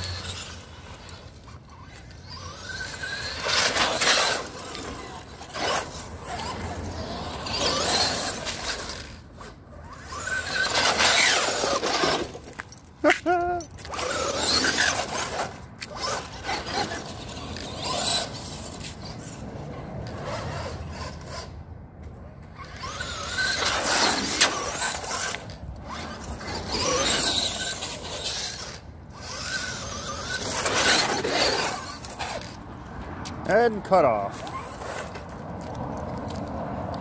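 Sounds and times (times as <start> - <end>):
tyres on asphalt: 0.0 - 37.0.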